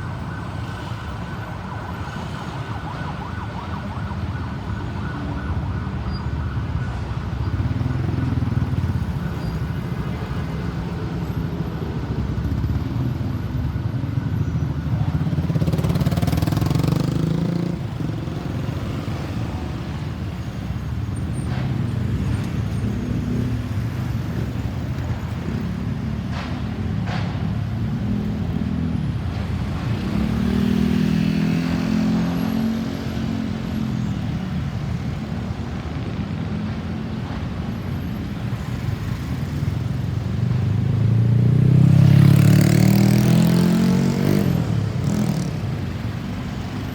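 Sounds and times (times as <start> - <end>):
passing cars and motorcycles: 0.0 - 46.9.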